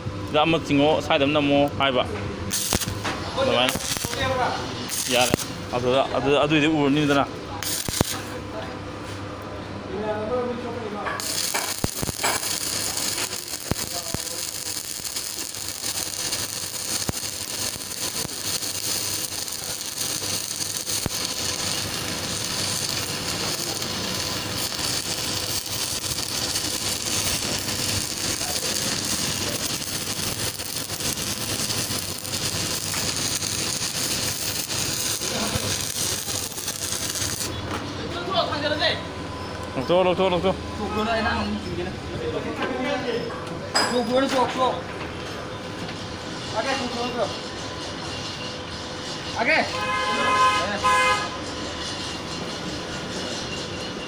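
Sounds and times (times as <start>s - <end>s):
arc welding crackling and sizzling: 0.0s - 8.7s, 10.1s - 39.0s, 45.8s - 54.0s.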